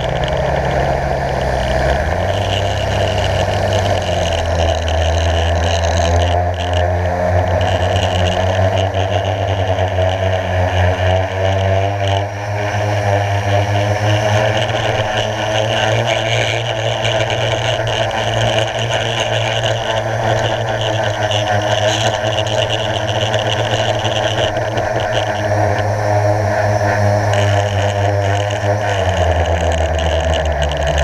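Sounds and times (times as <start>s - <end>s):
quadcopter motors droning: 0.0s - 31.0s.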